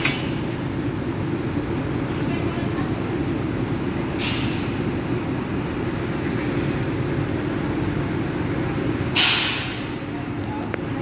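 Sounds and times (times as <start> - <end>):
low rumble of running vehicle: 0.0 - 11.0.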